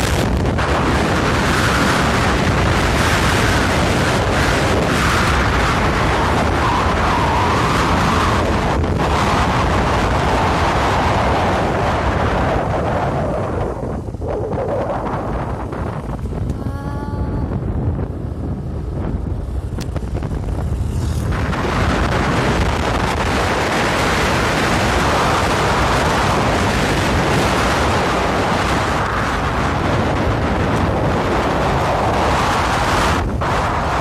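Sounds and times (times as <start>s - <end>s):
car road rumble: 0.0s - 34.0s
wind rushing on microphone: 0.0s - 34.0s.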